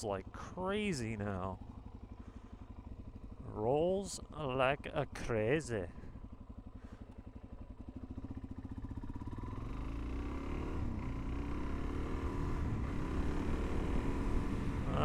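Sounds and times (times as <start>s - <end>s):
motorcycle engine accelerating: 1.0s - 15.0s.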